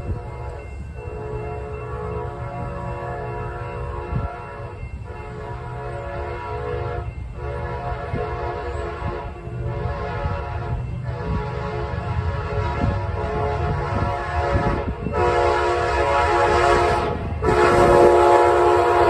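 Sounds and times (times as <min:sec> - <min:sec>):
locomotive air horn blasts: 0:00.0 - 0:19.0.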